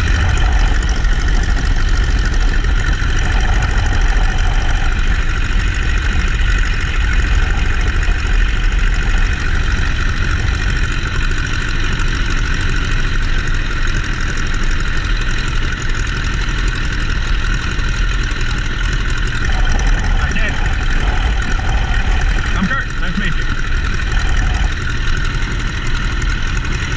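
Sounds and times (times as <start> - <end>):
biplane engine and propeller: 0.0 - 26.9.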